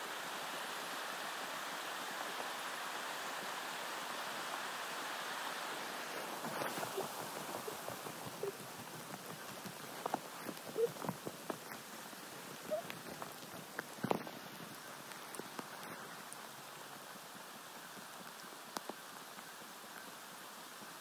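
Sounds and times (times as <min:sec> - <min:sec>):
rain pattering on pond and leaves: 0:00.0 - 0:21.0.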